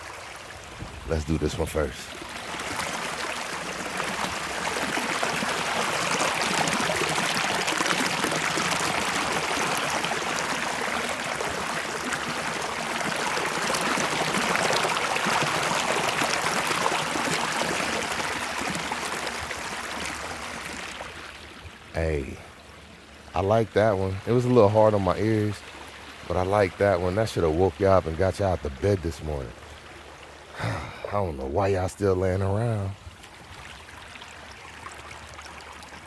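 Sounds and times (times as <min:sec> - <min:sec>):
creek water rushing: 0:00.0 - 0:36.0.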